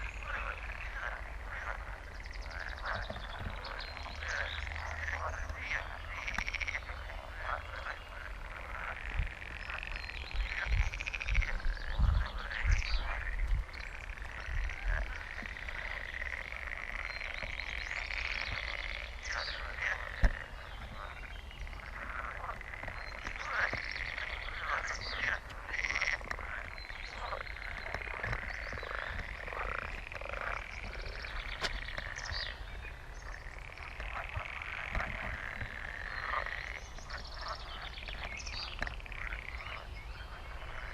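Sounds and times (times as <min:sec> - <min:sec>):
frogs croaking: 0:00.0 - 0:40.9.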